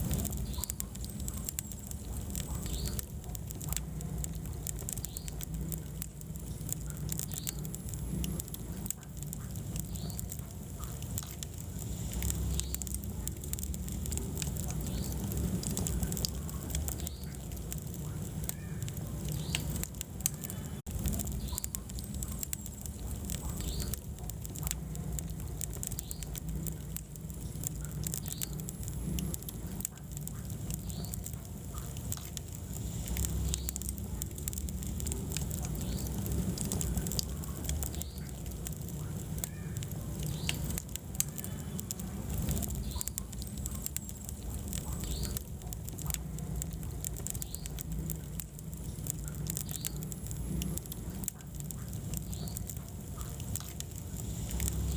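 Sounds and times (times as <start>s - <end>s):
low rumble of flames: 0.0s - 54.9s
wood fire crackling and popping: 0.0s - 54.9s.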